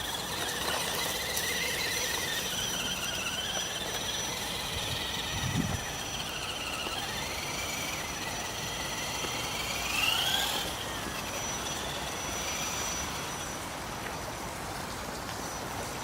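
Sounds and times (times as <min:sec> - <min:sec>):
electric motor whining: 0:00.0 - 0:13.6.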